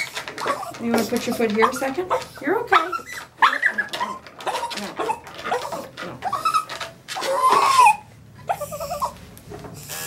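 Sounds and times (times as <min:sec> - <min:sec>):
dog whining and whimpering: 0:00.0 - 0:09.2.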